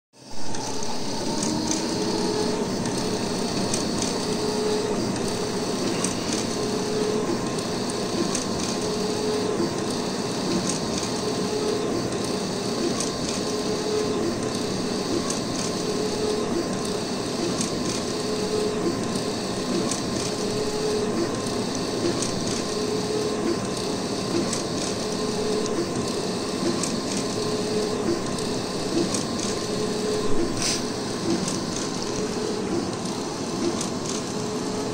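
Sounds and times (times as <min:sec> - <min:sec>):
printer carriage motor whine: 0:00.2 - 0:34.9
steady mechanical hum: 0:00.2 - 0:34.9.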